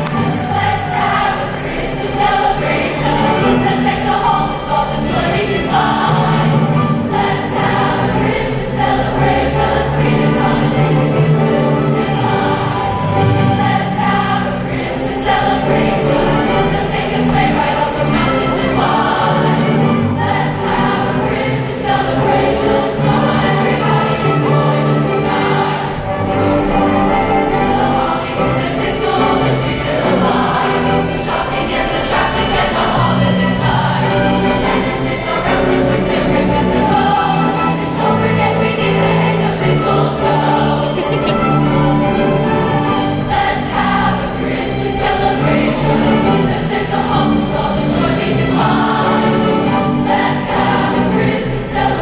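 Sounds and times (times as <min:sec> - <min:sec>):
choir singing with orchestra: 0:00.0 - 0:52.0
ensemble accompaniment: 0:00.0 - 0:52.0.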